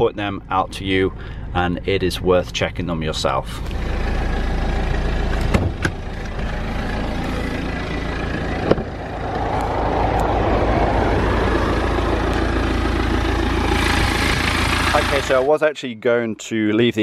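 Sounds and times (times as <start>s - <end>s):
car engine idling: 0.0s - 15.6s.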